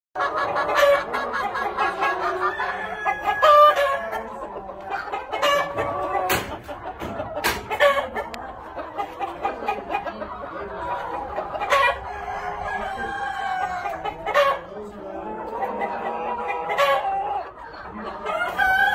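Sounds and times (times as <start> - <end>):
chickens clucking: 0.2 - 18.9.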